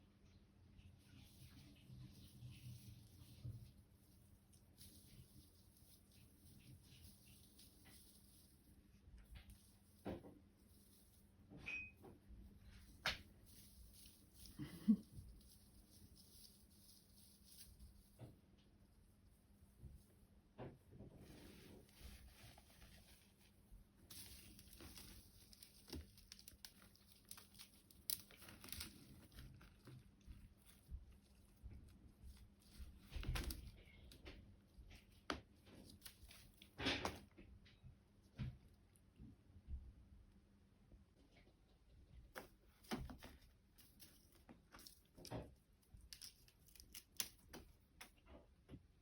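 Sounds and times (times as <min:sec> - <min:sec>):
cat rustling a toy: 0:00.6 - 0:39.8, 0:41.2 - 0:48.5.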